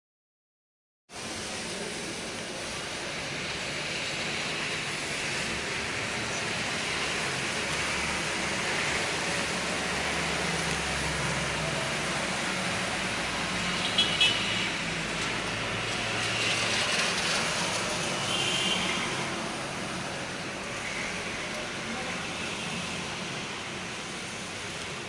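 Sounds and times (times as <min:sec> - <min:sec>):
heavy rain: 0:01.1 - 0:25.0
traffic on wet streets: 0:01.1 - 0:25.0.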